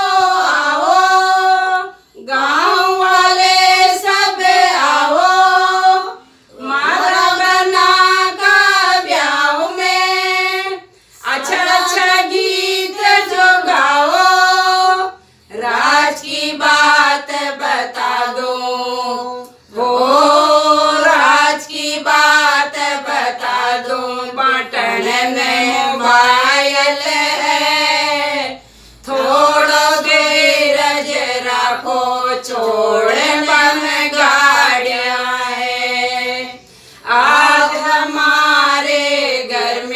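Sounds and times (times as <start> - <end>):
women singing unaccompanied: 0.0 - 39.9.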